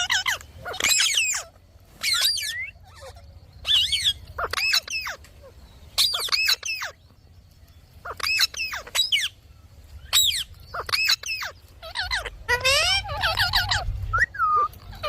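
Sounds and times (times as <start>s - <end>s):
parrot high-pitched calls: 0.0s - 7.0s, 8.0s - 9.4s, 10.0s - 15.0s.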